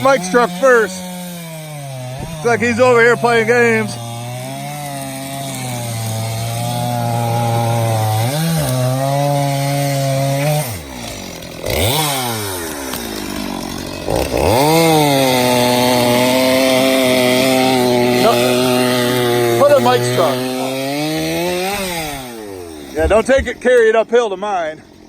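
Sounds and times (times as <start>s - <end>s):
chainsaw cutting logs: 0.0s - 25.0s.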